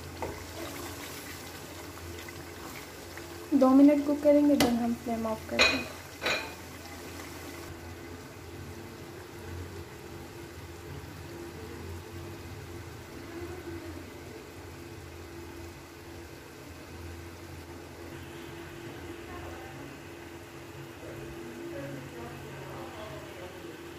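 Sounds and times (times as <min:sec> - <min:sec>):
gravy bubbling and sizzling: 0:00.0 - 0:23.9.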